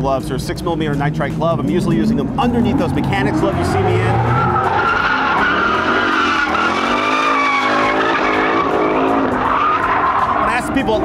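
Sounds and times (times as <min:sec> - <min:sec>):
car engine revving hard: 0:00.9 - 0:10.7
tyres squealing: 0:01.9 - 0:11.0.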